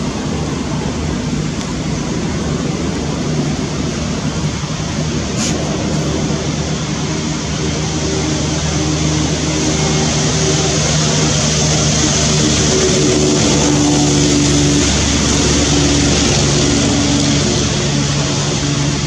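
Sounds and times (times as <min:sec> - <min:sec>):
engine drone with hiss: 0:00.0 - 0:19.0.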